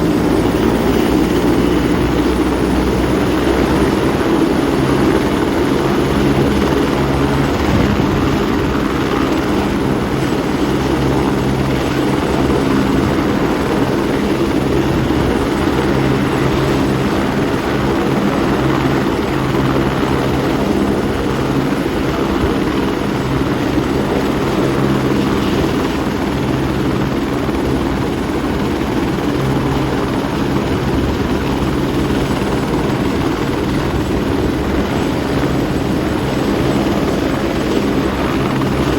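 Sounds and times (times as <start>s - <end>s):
helicopter running: 0.0s - 38.9s.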